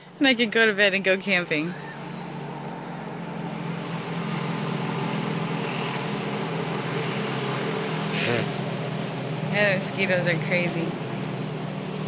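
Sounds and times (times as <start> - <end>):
low mechanical hum: 0.0 - 12.0
wash of noise: 1.7 - 12.0.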